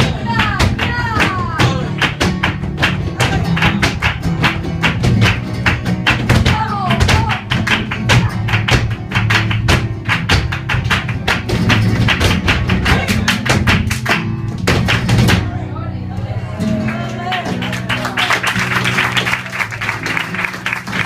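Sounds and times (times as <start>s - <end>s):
flamenco footwork strikes: 0.0s - 15.6s, 18.5s - 21.0s
flamenco guitar: 0.0s - 21.0s.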